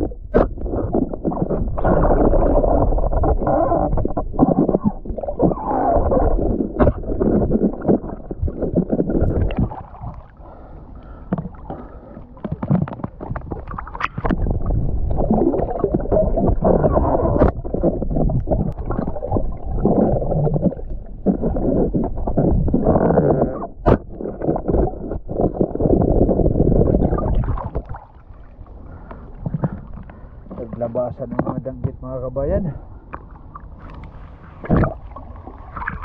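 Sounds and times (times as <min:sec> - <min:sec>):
muffled water sloshing: 0:00.0 - 0:36.0.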